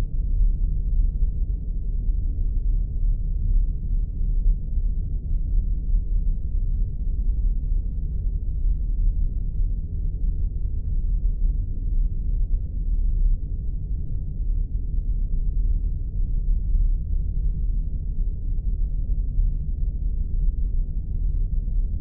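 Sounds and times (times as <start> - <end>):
deep muffled rumble: 0.0 - 22.0.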